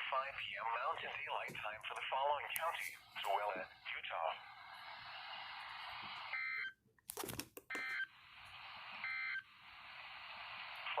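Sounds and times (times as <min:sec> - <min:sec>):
radio hiss: 0:00.0 - 0:06.4, 0:08.1 - 0:11.0.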